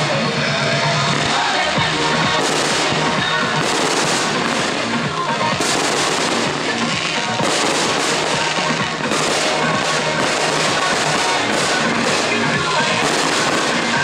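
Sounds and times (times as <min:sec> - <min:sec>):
fireworks bursting and crackling: 0:00.0 - 0:14.0
loud music: 0:00.0 - 0:14.0.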